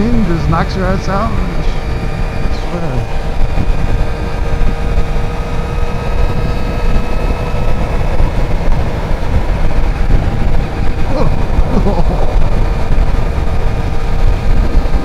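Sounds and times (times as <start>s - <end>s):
motorcycle engine steady note: 0.0s - 15.0s
wind noise on microphone: 0.0s - 15.0s.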